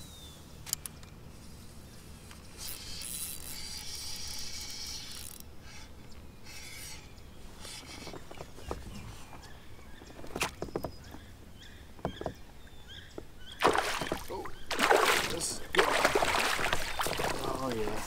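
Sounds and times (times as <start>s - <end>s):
faint birds chirping: 0.0s - 2.3s, 5.6s - 18.0s
quiet river ambience: 0.0s - 18.0s.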